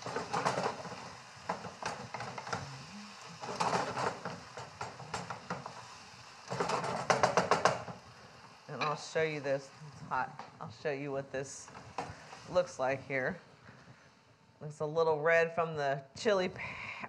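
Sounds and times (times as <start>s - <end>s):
wooden spatula scraping a pan: 0.0s - 14.2s
meat sizzling in a skillet: 0.0s - 14.4s.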